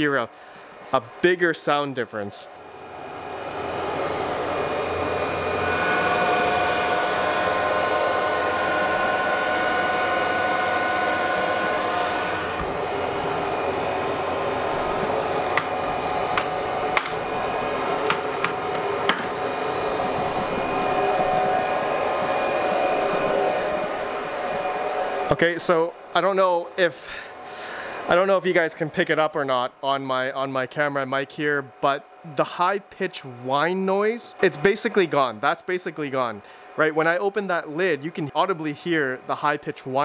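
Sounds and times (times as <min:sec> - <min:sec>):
cooling fans rushing air: 0:00.0 - 0:40.0
high-pitched fan whine: 0:00.0 - 0:40.0.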